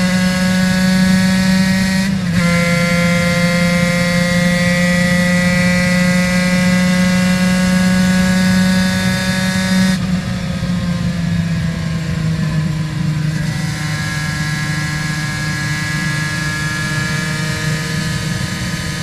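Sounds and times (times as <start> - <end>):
two-stroke motorcycle engine revving: 0.0 - 10.1, 12.3 - 19.0.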